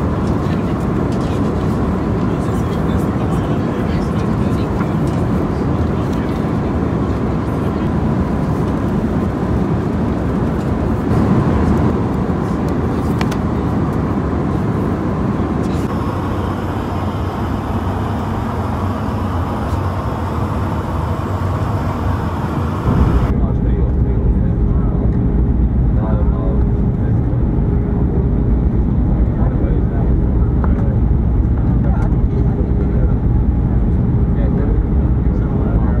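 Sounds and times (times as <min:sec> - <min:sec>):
airplane cabin rumble: 0:00.0 - 0:36.0.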